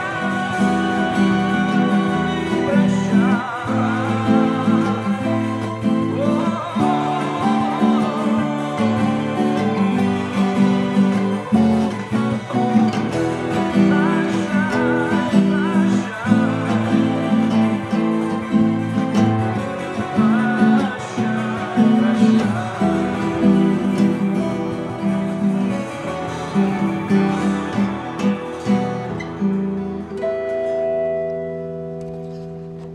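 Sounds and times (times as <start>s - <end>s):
acoustic guitar chords: 0.0s - 32.9s.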